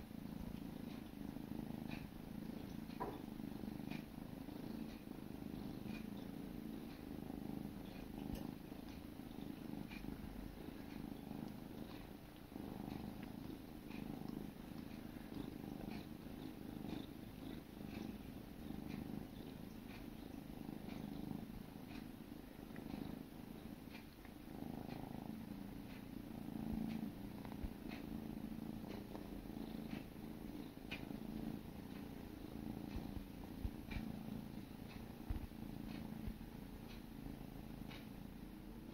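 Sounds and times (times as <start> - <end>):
kittens purring: 0.0 - 38.9.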